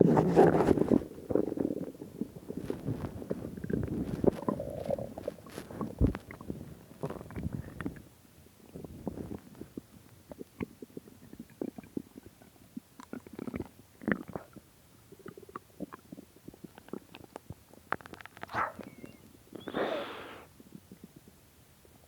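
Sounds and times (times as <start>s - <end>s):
stomach growling: 0.0s - 8.1s, 8.7s - 21.3s.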